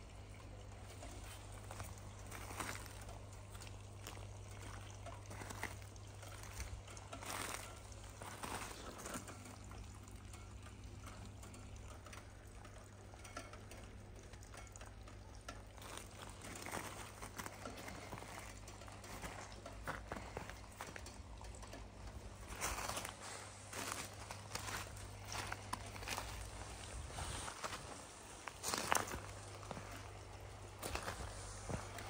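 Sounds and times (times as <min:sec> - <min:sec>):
pond water bubbling and lapping: 0:00.0 - 0:32.0
steady low hum: 0:00.0 - 0:32.0.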